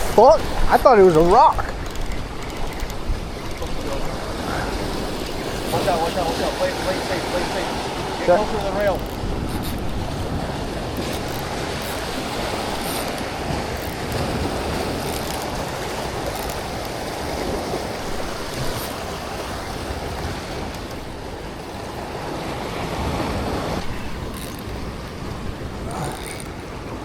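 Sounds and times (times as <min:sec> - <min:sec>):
ocean waves and surf: 0:00.0 - 0:27.0.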